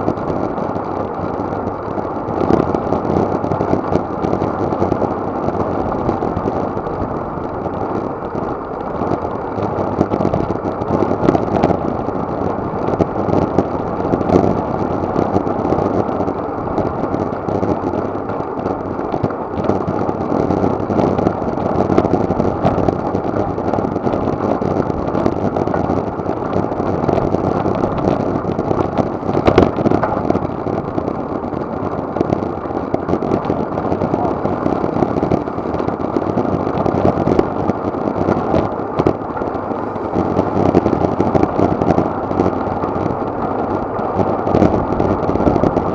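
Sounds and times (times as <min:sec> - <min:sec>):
wind and road noise roar: 0:00.0 - 0:45.9.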